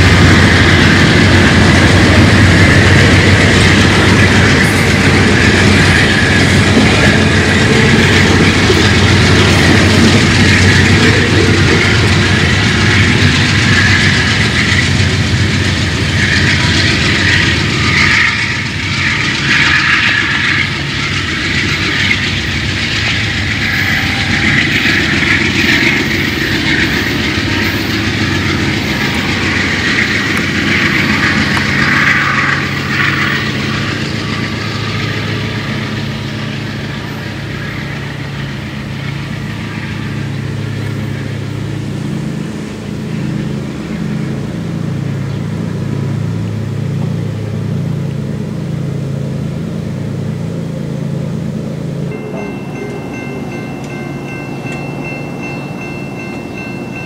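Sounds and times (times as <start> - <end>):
train wheels clickety-clack: 0.0 - 49.8, 52.0 - 57.0.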